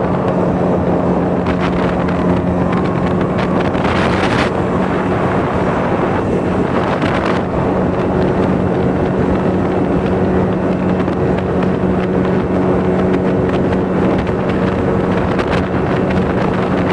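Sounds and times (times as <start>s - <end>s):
motorboat engine humming: 0.0s - 16.9s
wind noise on microphone: 0.0s - 16.9s.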